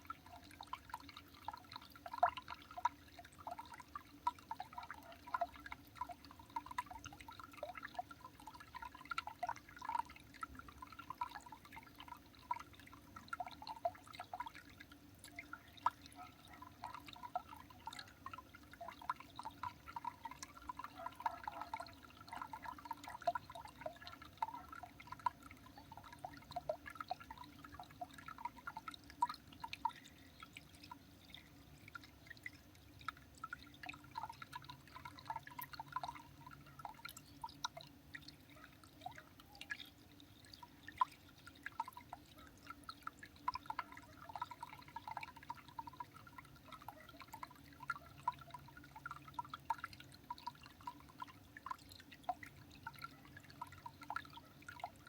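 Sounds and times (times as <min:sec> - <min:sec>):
faint background hum: 0:00.0 - 0:55.0.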